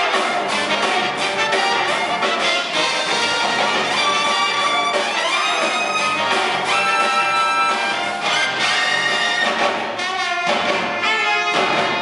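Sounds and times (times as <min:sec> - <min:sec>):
jazz big band playing: 0:00.0 - 0:12.0.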